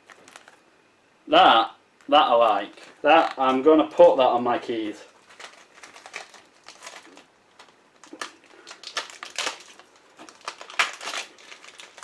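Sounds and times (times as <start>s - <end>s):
plastic crinkling: 0.0s - 0.6s, 2.0s - 12.0s.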